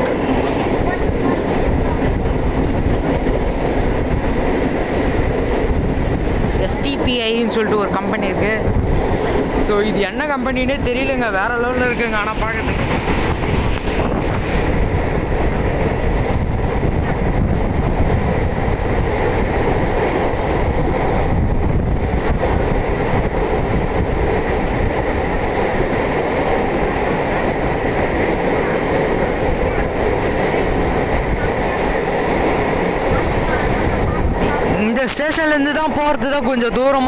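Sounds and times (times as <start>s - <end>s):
train wheels on rail: 0.0s - 37.0s.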